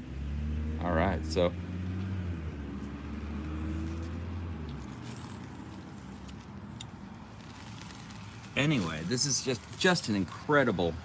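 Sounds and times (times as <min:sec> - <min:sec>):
faint outdoor background noise: 0:00.0 - 0:11.0
vehicle engine humming: 0:00.0 - 0:11.0.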